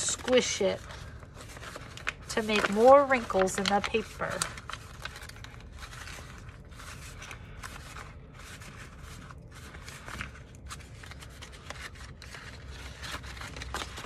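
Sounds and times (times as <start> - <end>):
thick paper crinkling: 0.0 - 14.0.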